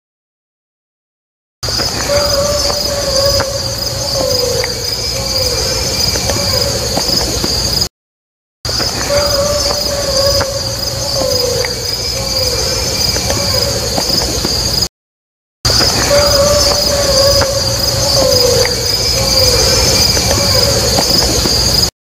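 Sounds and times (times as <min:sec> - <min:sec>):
insects chirring: 0:01.6 - 0:07.9, 0:08.7 - 0:14.9, 0:15.7 - 0:21.9.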